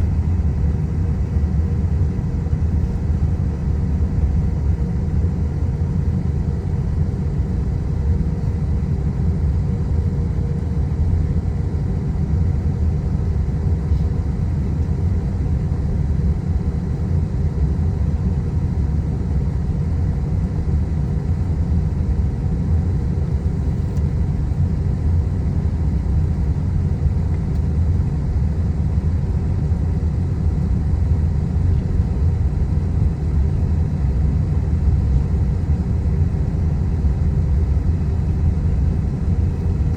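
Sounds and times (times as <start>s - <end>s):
faint steady whine: 0.0s - 39.9s.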